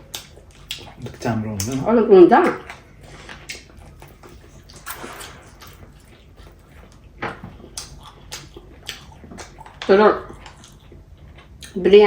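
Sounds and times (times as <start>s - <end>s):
wet eating sounds: 0.0s - 11.9s.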